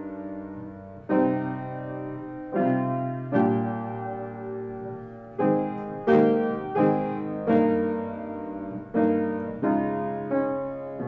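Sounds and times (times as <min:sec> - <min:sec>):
solo piano playing slow chords: 0:00.0 - 0:11.0.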